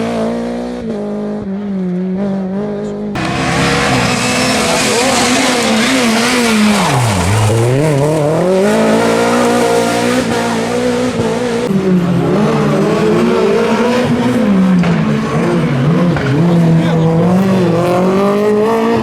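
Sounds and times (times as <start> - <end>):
rally car engine at high revs: 0.0 - 19.0.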